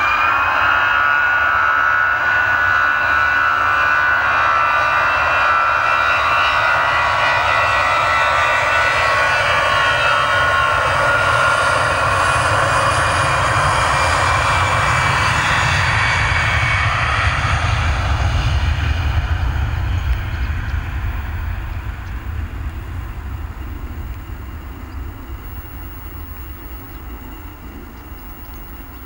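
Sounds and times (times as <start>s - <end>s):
jet engine roar with whine: 0.0s - 29.0s.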